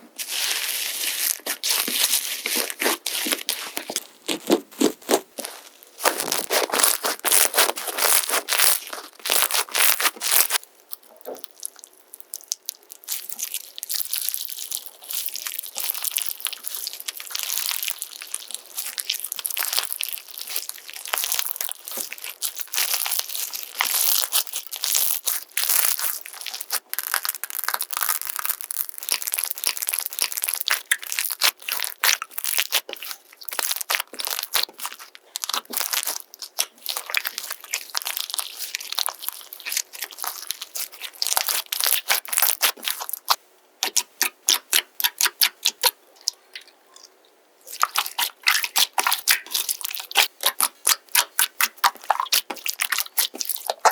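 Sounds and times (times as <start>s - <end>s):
slime squeezed crackling: 0.2s - 47.0s, 47.6s - 53.9s.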